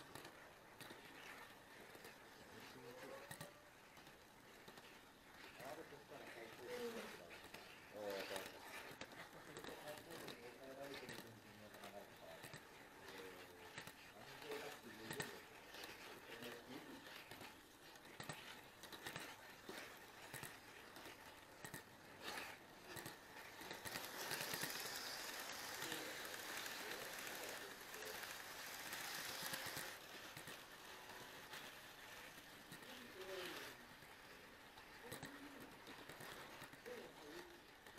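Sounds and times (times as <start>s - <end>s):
model train running noise: 0.0s - 37.9s
model train wheels clicking: 0.0s - 37.9s
passing model train rushing: 0.0s - 37.9s.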